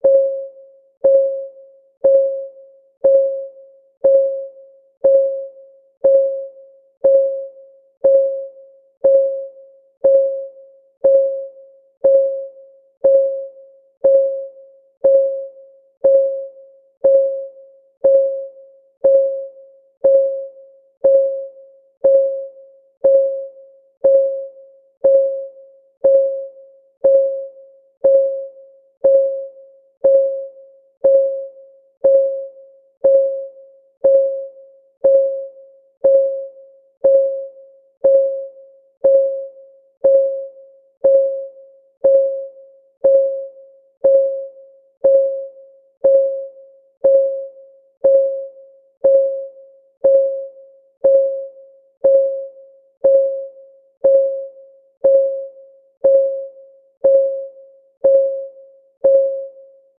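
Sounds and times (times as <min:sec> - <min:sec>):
timer ticking: 0:00.0 - 0:59.6.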